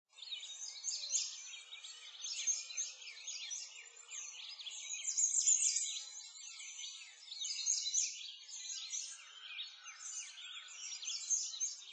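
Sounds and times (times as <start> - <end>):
small birds chirping: 0.1 - 11.9.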